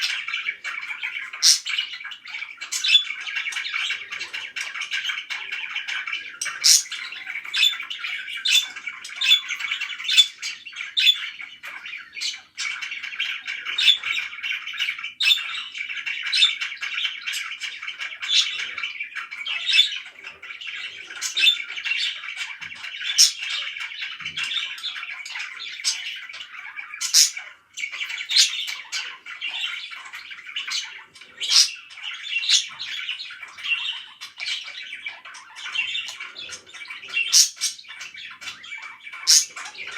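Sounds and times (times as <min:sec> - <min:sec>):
parakeet squawks: 0:00.0 - 0:39.9
parakeets chirping: 0:00.0 - 0:39.9.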